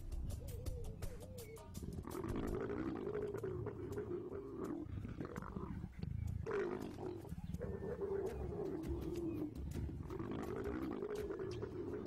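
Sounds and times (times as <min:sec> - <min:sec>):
leopards growling and snarling: 0:01.8 - 0:12.0.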